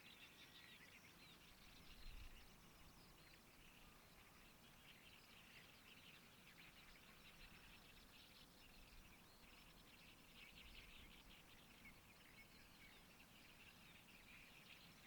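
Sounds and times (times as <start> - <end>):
chorus of small bird calls: 0.0 - 15.0
low outdoor hiss: 0.0 - 15.0.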